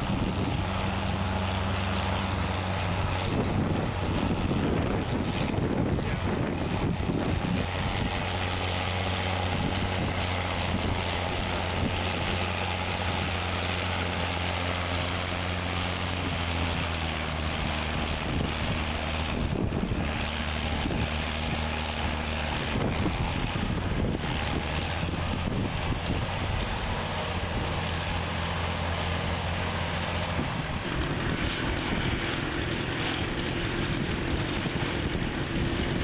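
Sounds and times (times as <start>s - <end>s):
tractor engine running: 0.0s - 36.0s
wind noise on microphone: 0.0s - 36.0s.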